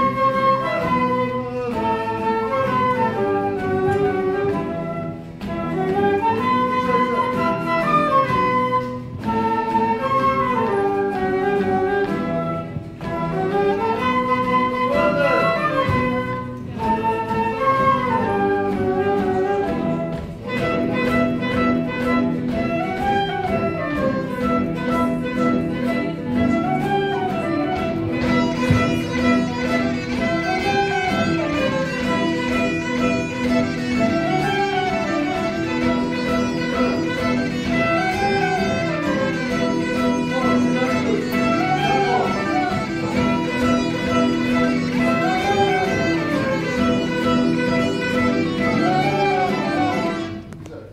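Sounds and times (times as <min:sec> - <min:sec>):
flutes clarinet and guitars march: 0:00.0 - 0:50.8.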